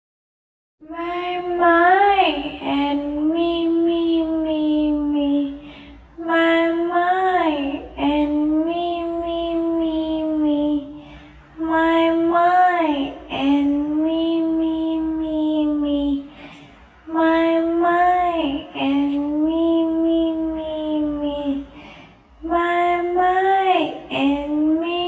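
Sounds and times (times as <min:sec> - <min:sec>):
high voice singing: 0:00.8 - 0:25.0.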